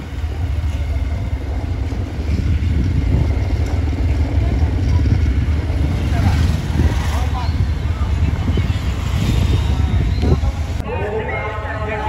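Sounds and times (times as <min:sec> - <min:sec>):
motorcycle engine rumble: 0:00.0 - 0:12.0
wind buffeting microphone: 0:00.0 - 0:12.0.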